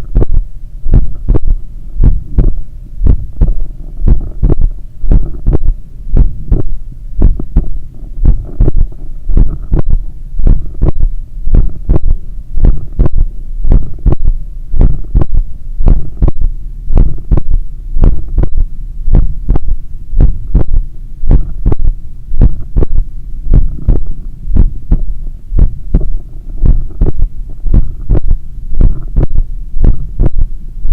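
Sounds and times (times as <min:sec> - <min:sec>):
heartbeat through stethoscope: 0:00.0 - 0:30.9.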